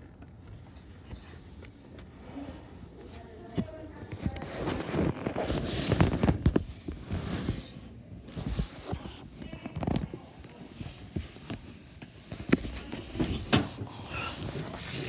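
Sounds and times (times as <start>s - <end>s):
fabric rustling: 0.0s - 13.5s.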